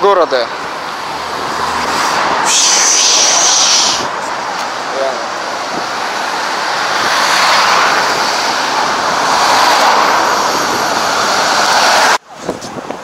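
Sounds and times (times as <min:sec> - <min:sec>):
cars passing close by: 0:00.0 - 0:13.0.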